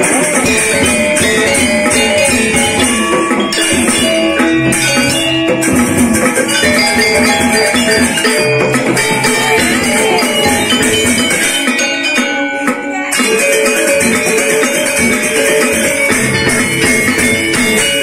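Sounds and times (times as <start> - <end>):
barrel drum: 0.0 - 18.0
high metallic shimmer: 0.0 - 18.0
metallophones and gongs ringing: 0.0 - 18.0.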